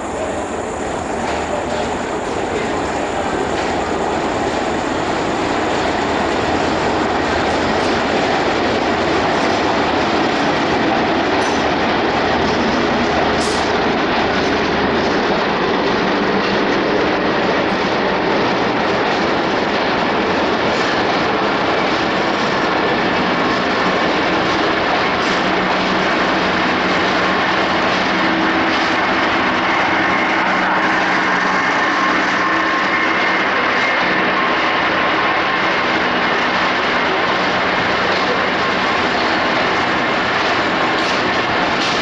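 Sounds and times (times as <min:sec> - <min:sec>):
train wheels running on track: 0:00.0 - 0:42.0.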